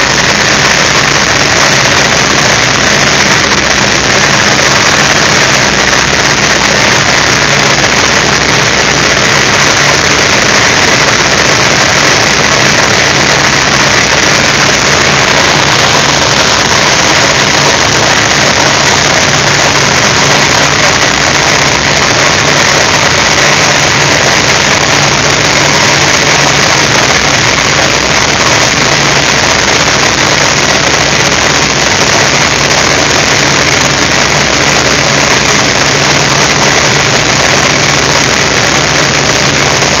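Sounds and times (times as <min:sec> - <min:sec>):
radial aircraft engine running: 0:00.0 - 0:40.0
rush of air over canopy: 0:00.0 - 0:40.0.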